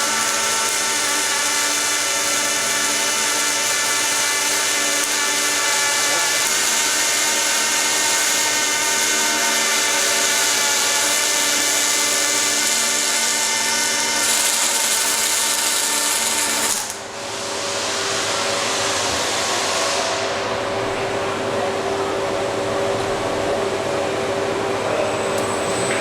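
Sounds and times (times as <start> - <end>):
machinery whining over hiss: 0.0 - 22.7.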